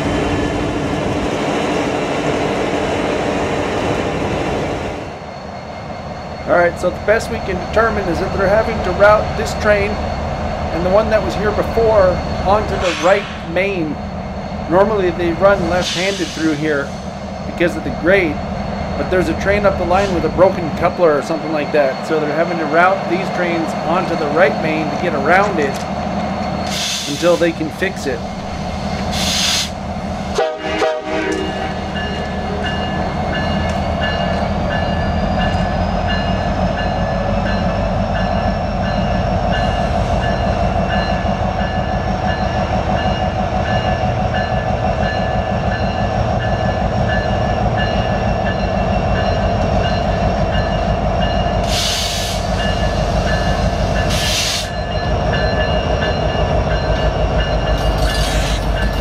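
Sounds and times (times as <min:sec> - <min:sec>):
diesel locomotive rumble and whine: 0:00.0 - 0:59.0.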